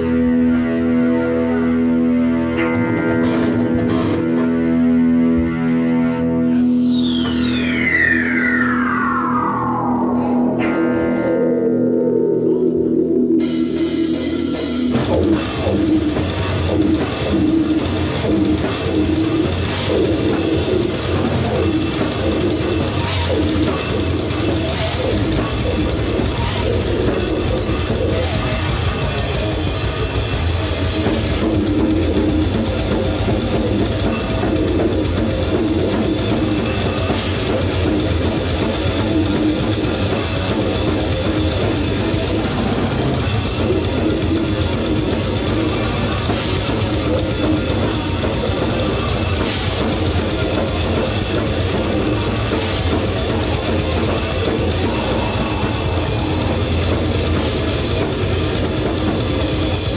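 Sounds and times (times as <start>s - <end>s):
metal band playing live: 0.0s - 59.9s.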